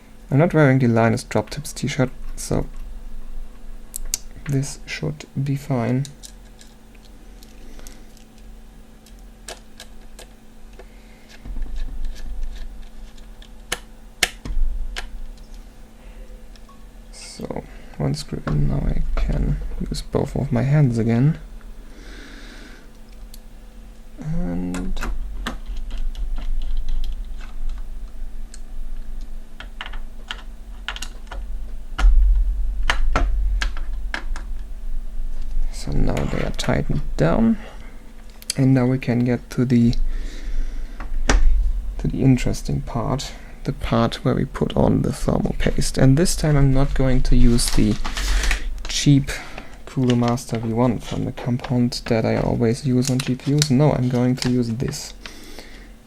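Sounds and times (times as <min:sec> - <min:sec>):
low rumble of handling: 0:01.2 - 0:21.8, 0:22.9 - 0:55.3.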